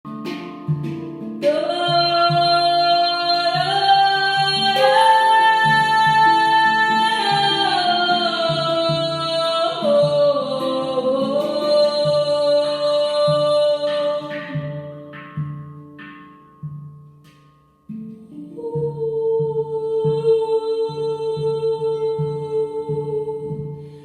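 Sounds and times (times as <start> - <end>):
plucked string instrument: 0.0 - 24.0
woman singing long held notes: 1.4 - 15.0, 18.3 - 24.0.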